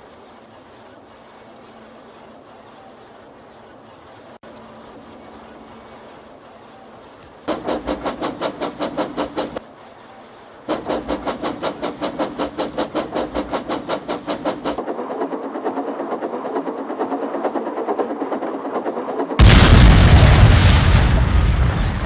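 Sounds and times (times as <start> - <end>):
steam locomotive chuffing: 0.0 - 22.0.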